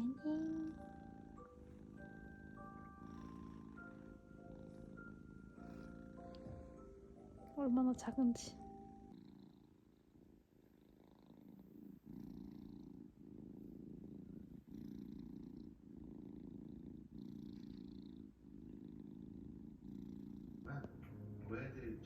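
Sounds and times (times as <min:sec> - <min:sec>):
kitten purring: 0:00.0 - 0:22.0.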